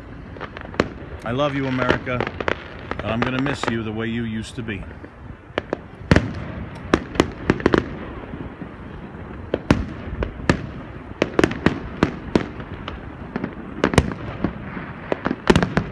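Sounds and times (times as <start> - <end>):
background rumble: 0.0 - 15.9
fireworks bangs: 0.0 - 15.9.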